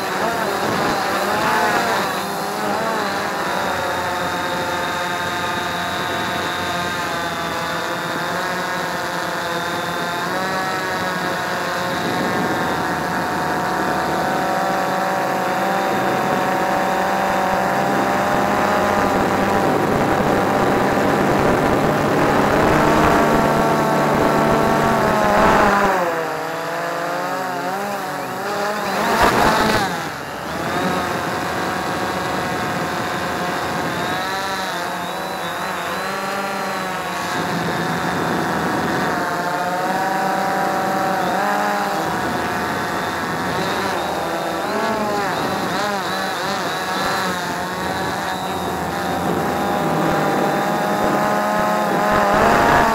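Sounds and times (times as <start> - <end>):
drone motors whining: 0.0 - 52.9
loud rush of noise: 10.0 - 52.9.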